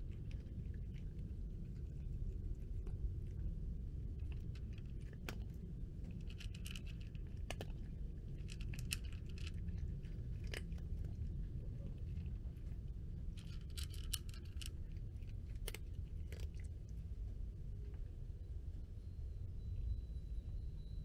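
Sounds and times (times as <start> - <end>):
cat crunching dry kibble: 0.0 - 17.3
low background rumble: 0.0 - 21.0.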